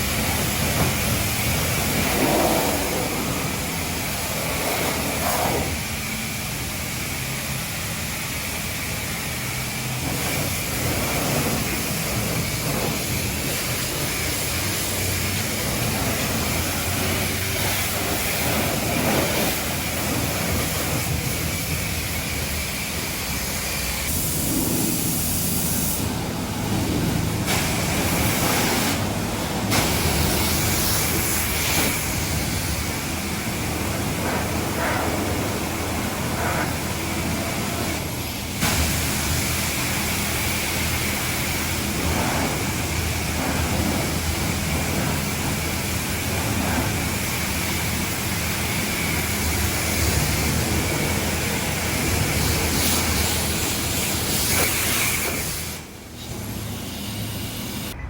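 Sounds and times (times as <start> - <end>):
pressure washer spraying: 0.0 - 58.0.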